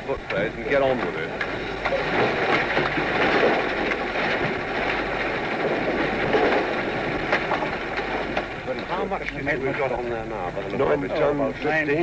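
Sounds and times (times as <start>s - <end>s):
scattered knocks: 0.0s - 11.1s.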